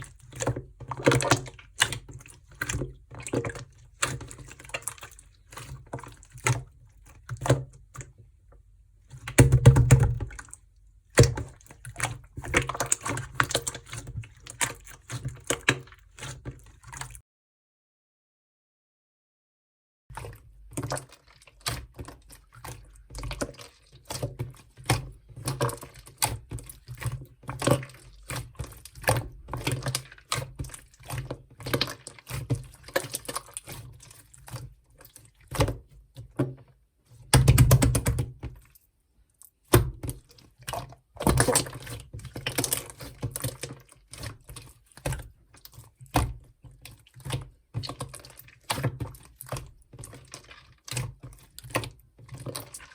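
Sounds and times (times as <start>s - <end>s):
slime squelch: 0.0s - 17.2s, 20.1s - 52.9s.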